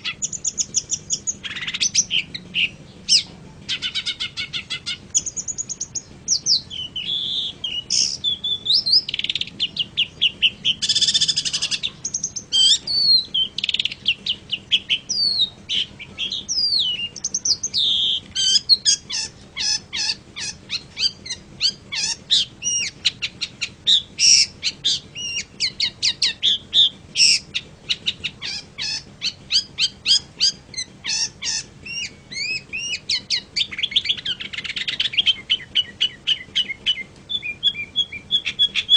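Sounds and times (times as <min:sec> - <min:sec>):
bird singing chirps and whistles: 0:00.0 - 0:38.9
harsh buzzy bird call: 0:00.0 - 0:38.9.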